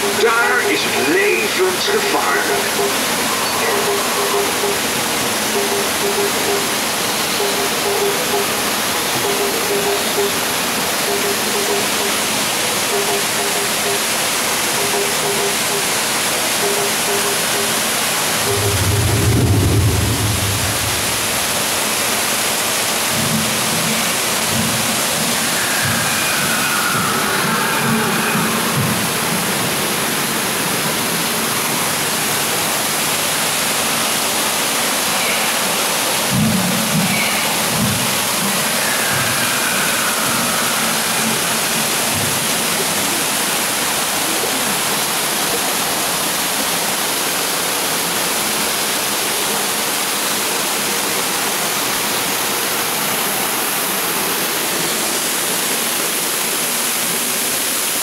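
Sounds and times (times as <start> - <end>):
waterfall splashing into pool: 0.0 - 58.0.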